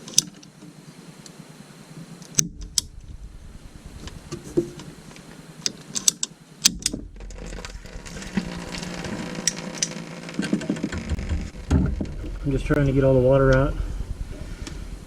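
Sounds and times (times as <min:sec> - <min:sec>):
low hum: 0:02.4 - 0:15.0.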